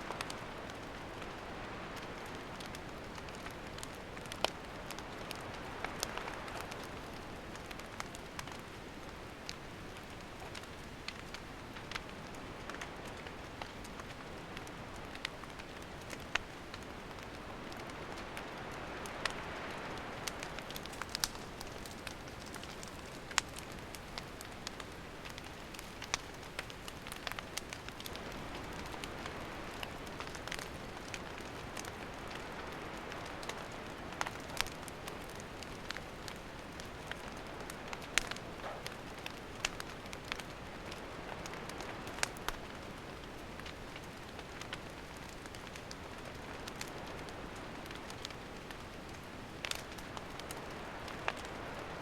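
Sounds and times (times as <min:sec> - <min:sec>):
campfire hissing and crackling: 0:00.0 - 0:52.0.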